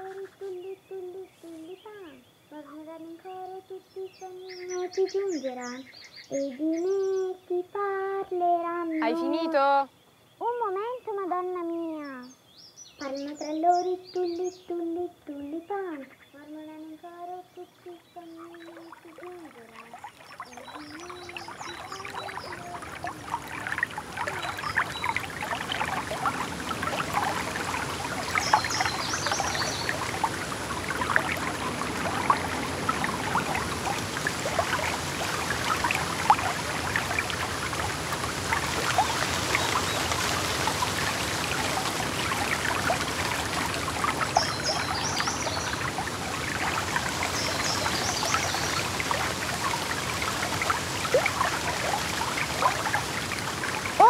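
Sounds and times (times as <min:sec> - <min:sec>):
water babbling: 0:00.0 - 0:09.9, 0:12.8 - 0:54.0.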